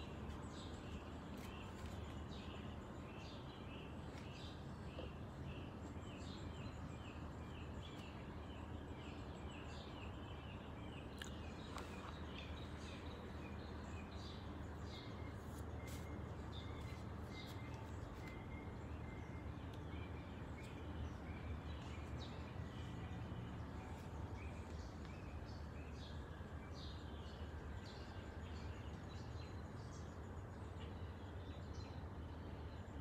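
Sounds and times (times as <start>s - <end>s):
birds chirping: 0.0s - 33.0s
low outdoor rumble: 0.0s - 33.0s.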